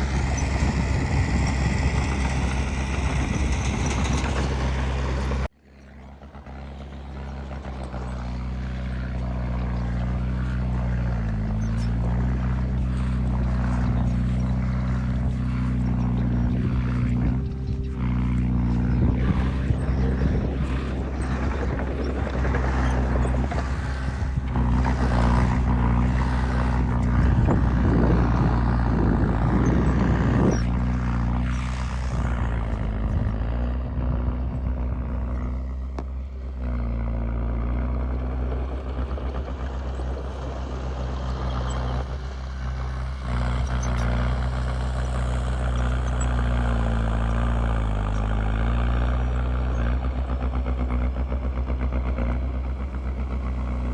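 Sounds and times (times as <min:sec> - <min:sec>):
diesel engine droning: 0:00.0 - 0:53.9
rough noisy rumble: 0:00.0 - 0:53.9.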